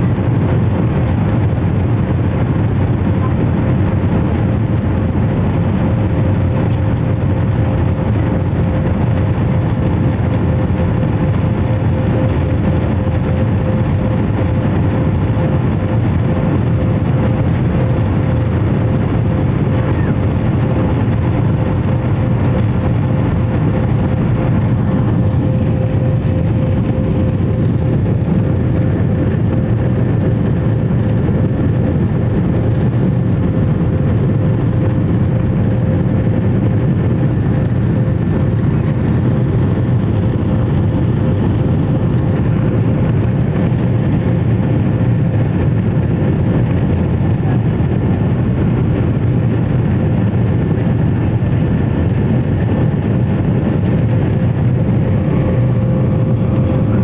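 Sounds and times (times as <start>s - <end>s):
jet engine cabin roar: 0.0s - 57.0s.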